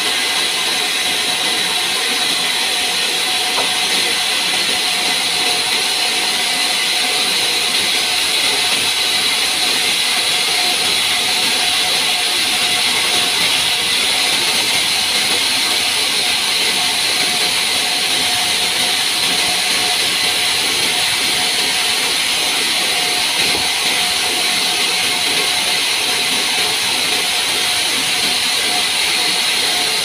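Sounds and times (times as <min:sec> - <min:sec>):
band saw cutting log: 0:00.0 - 0:30.0.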